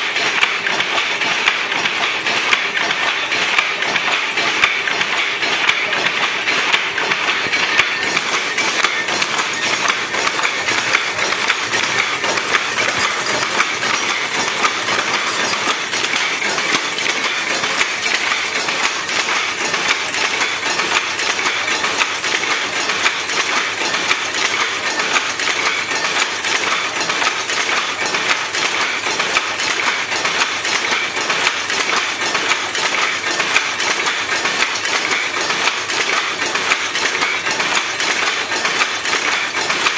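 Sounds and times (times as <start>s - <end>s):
power loom clattering: 0.0s - 39.9s.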